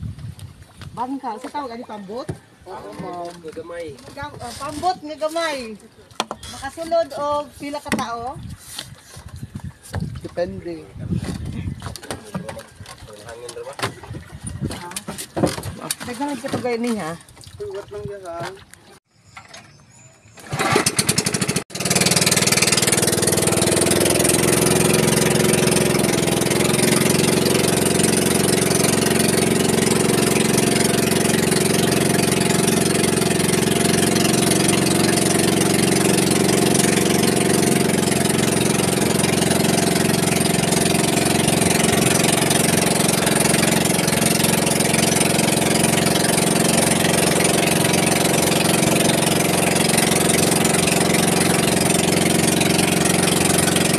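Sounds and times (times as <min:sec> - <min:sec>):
boat engine starting and running: 0:01.0 - 0:53.9.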